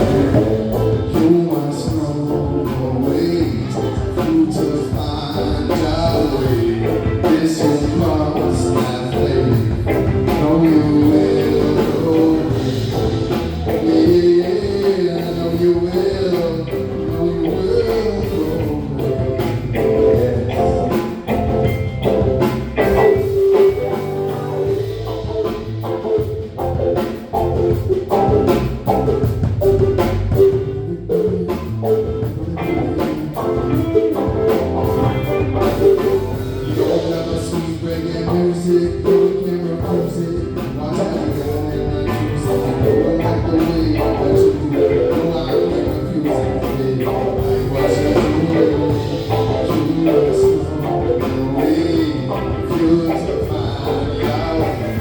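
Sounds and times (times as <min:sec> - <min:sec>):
blues-rock band playing live: 0:00.0 - 0:55.0
person singing: 0:00.0 - 0:55.0.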